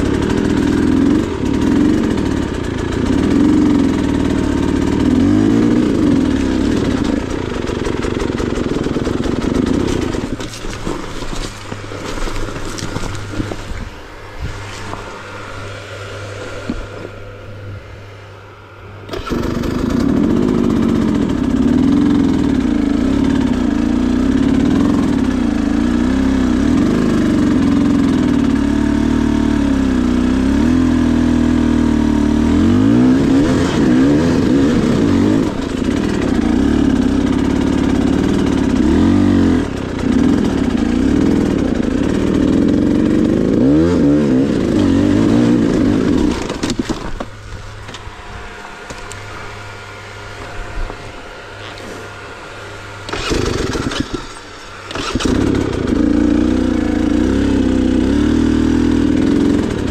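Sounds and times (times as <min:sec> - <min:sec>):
dirt bike engine running: 0:00.0 - 0:18.3, 0:19.0 - 0:59.9.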